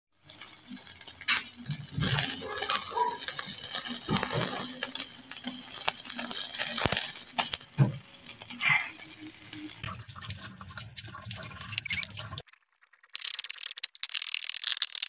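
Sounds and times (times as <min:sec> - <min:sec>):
meat sizzling on grill: 0:00.1 - 0:12.4
fat crackling and popping: 0:00.1 - 0:15.0.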